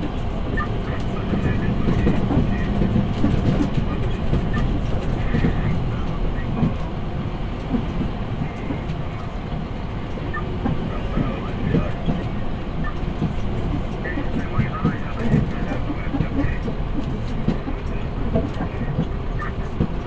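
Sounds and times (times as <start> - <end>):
diesel truck engine rumble: 0.0 - 20.0
road noise: 0.0 - 20.0.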